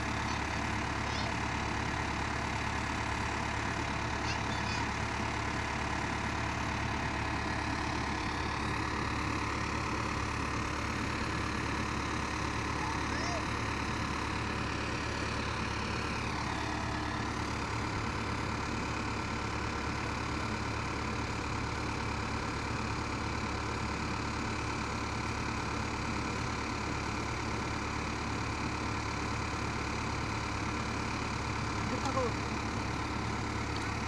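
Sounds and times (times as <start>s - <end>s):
excavator diesel engine idling: 0.0s - 34.0s.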